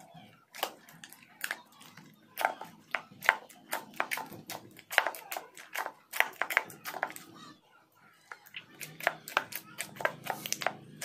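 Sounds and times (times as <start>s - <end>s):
slime squelching by hand: 0.0s - 11.0s.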